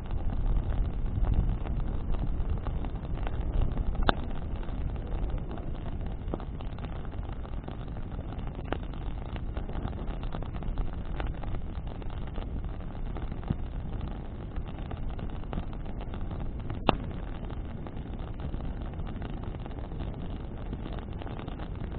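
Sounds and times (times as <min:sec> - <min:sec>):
fire crackling and popping: 0:00.0 - 0:21.9
rumble of flames and wind: 0:00.0 - 0:21.9.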